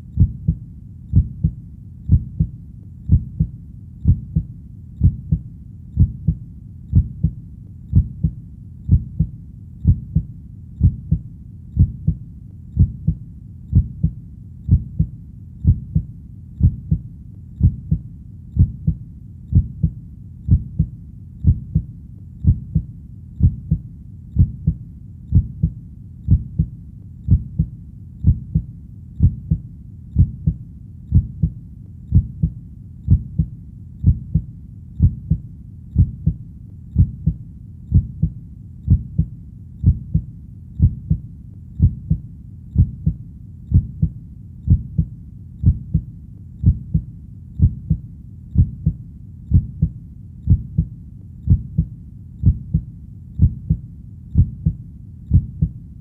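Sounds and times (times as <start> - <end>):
heartbeat double thump: 0.2 - 2.5, 3.1 - 5.4, 6.0 - 11.2, 11.8 - 12.2, 12.8 - 17.0, 17.6 - 18.0, 18.6 - 23.8, 24.4 - 26.7, 27.3 - 29.6, 30.2 - 35.4, 36.0 - 36.4, 37.0 - 41.2, 41.8 - 42.2, 42.8 - 48.0, 48.6 - 50.9, 51.5 - 53.8, 54.4 - 55.8.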